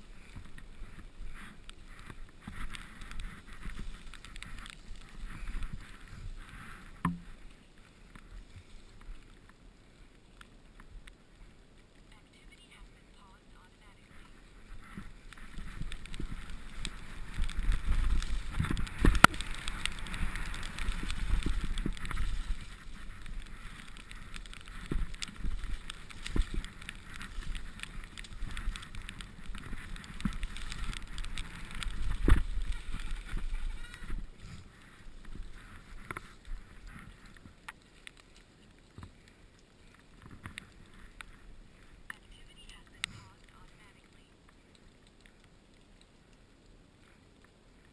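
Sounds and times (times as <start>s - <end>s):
bike tyre and frame rumbling: 0.0s - 12.1s, 14.0s - 47.9s.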